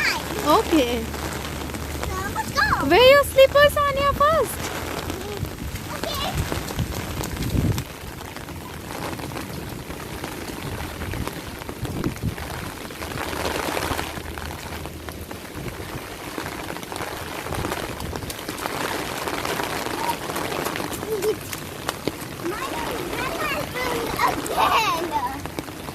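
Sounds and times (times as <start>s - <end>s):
rain pattering on surfaces: 0.0s - 25.9s.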